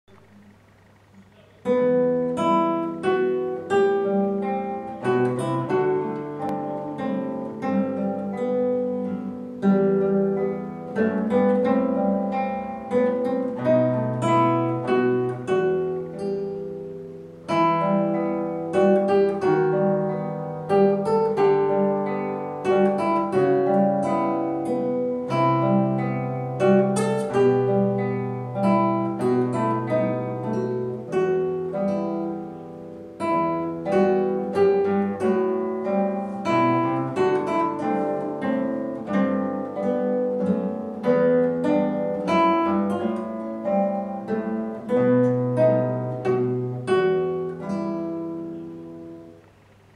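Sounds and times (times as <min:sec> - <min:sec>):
classical guitar duet: 0:00.0 - 0:49.9.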